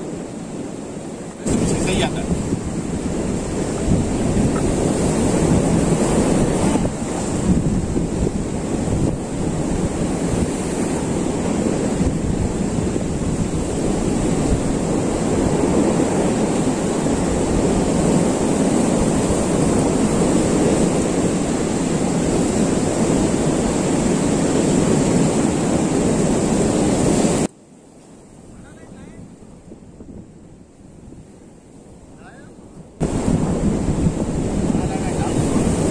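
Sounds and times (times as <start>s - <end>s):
sea surf on rocky shore: 0.0s - 35.9s
wind rumbling on microphone: 0.0s - 35.9s.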